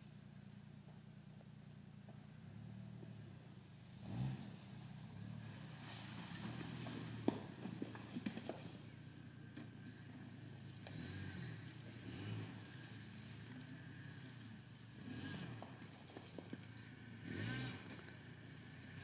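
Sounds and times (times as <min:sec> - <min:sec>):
distant engine at low revs: 0:00.0 - 0:19.0
loose rocks clicking under tyres: 0:00.7 - 0:19.0.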